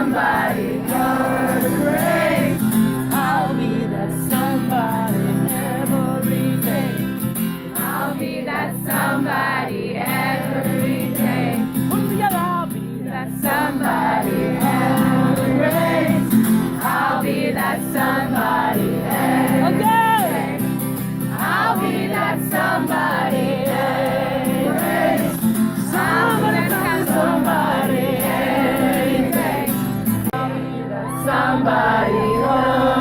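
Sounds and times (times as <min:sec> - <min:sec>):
several voices singing: 0:00.0 - 0:33.0.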